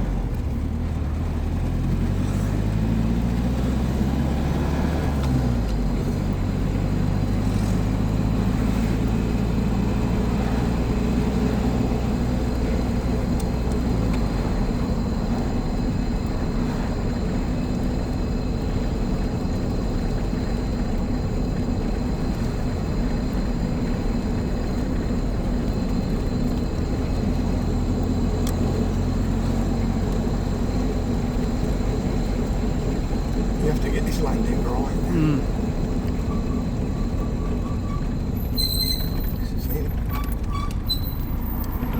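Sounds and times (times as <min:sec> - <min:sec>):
car engine running: 0:00.0 - 0:41.9
road noise: 0:00.0 - 0:41.9.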